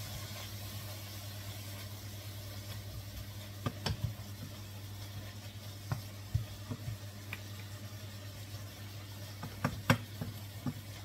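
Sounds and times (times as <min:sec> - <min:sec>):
bacon and onions frying: 0:00.0 - 0:11.0.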